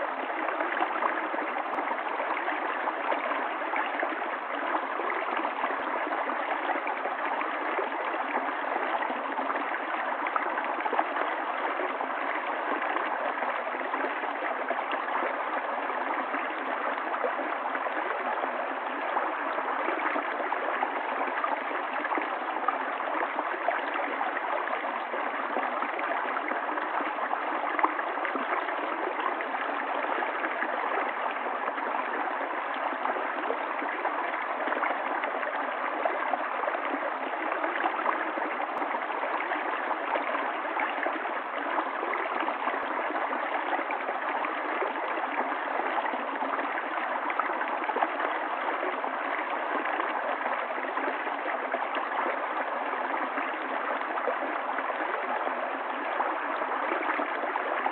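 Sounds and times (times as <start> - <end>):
stream flowing and gurgling: 0.0 - 57.9.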